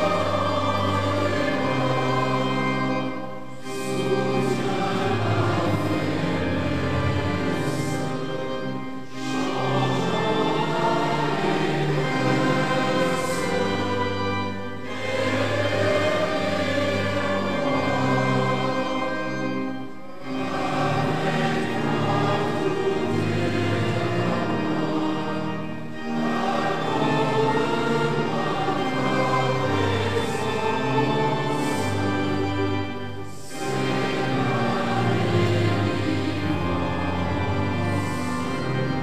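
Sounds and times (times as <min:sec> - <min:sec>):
congregation singing a hymn: 0:00.0 - 0:39.0
pipe organ: 0:00.0 - 0:39.0.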